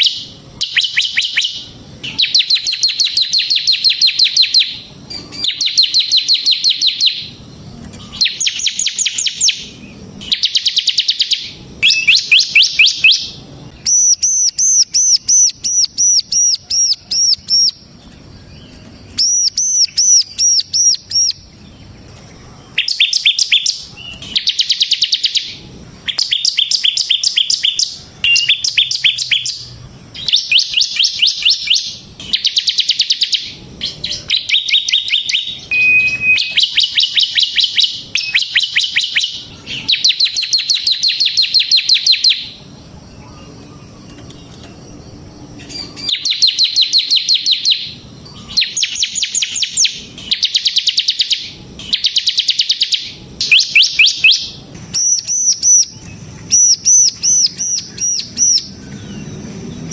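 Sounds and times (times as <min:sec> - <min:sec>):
bird singing rapid trills: 0:00.0 - 0:59.9.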